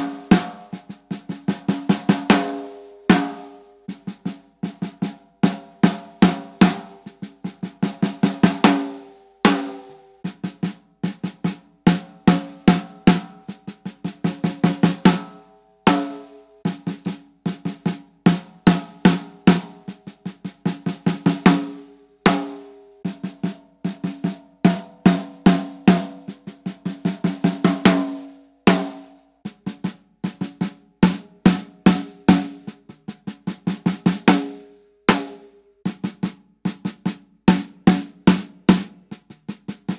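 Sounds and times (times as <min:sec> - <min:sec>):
snare drum strokes and rolls: 0:00.0 - 0:39.9.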